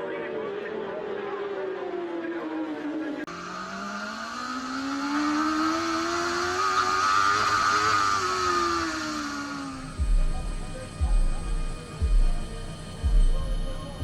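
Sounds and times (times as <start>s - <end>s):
racing motorcycle engine: 0.0s - 14.0s.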